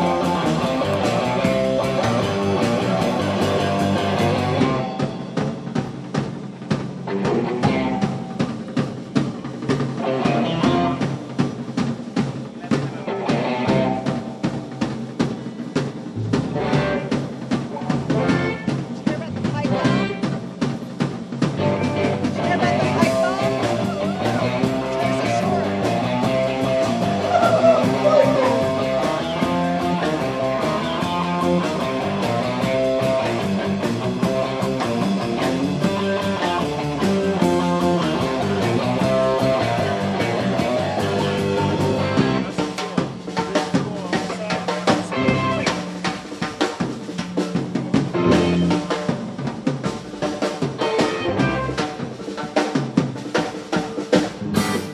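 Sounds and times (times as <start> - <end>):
bass guitar: 0.0 - 54.9
drum kit: 0.0 - 54.9
electric guitar: 0.0 - 54.9.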